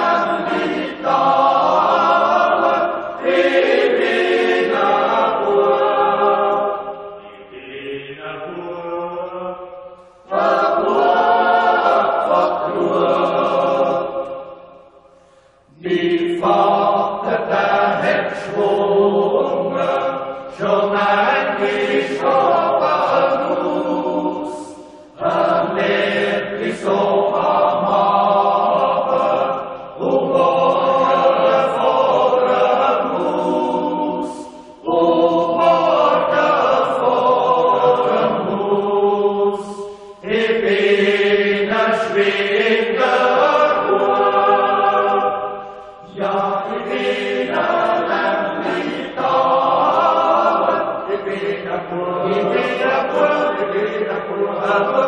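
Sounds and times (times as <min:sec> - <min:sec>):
choir singing chant-like phrases: 0:00.0 - 0:55.0.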